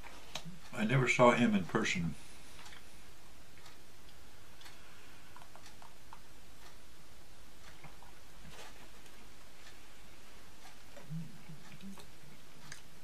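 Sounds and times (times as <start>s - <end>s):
faint ticking: 0.0s - 13.0s
room noise: 0.0s - 13.0s.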